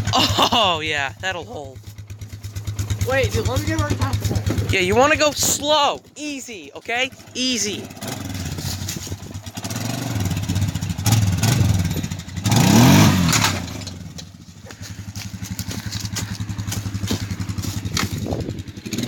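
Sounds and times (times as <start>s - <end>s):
small lawn mower engine revving: 1.9s - 5.6s, 7.1s - 19.0s.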